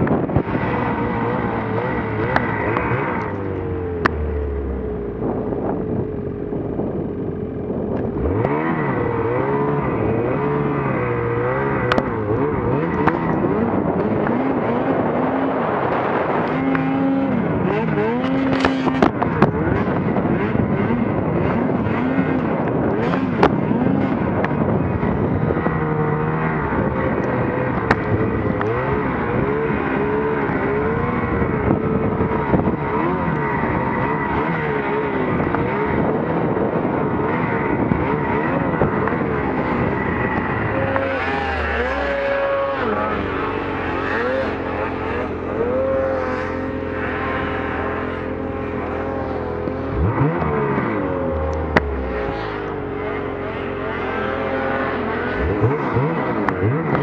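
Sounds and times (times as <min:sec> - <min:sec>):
snowmobile engine running hard: 0:00.0 - 0:57.0.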